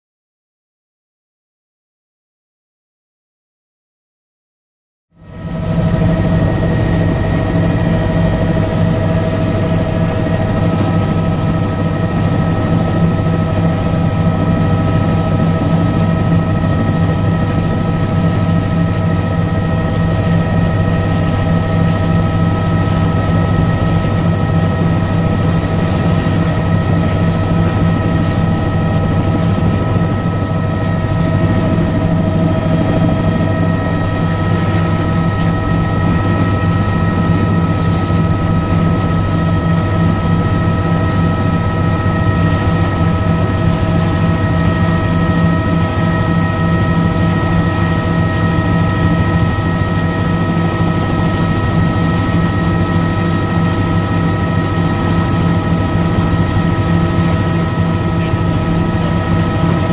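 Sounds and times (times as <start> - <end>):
helicopter engine and rotors: 5.2 - 59.9.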